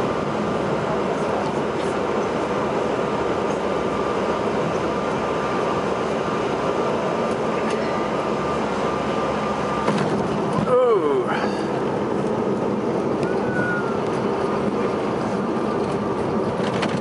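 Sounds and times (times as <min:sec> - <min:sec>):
thin steady whine: 0:00.0 - 0:16.5
jet engines and rushing airflow: 0:00.0 - 0:17.0.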